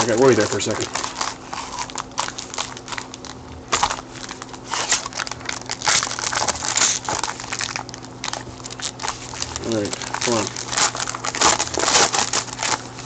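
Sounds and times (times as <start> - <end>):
foil wrapper crinkling: 0.0 - 13.0.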